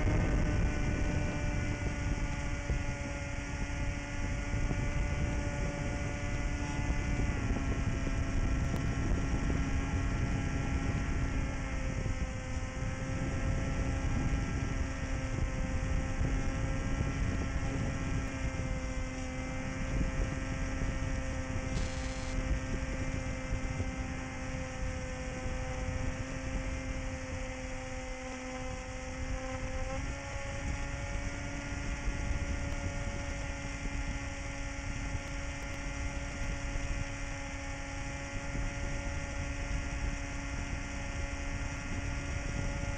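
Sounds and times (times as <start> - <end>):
electric motor whine: 0.0 - 42.9
wind rush on microphone: 0.0 - 42.9.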